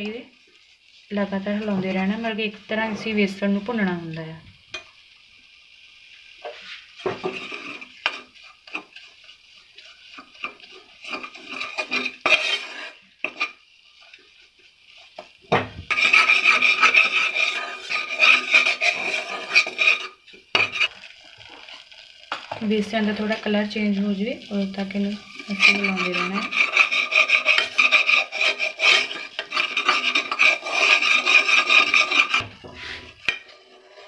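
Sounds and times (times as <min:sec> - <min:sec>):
flour stirred and scraped in pan: 0:00.0 - 0:04.0, 0:04.7 - 0:34.0.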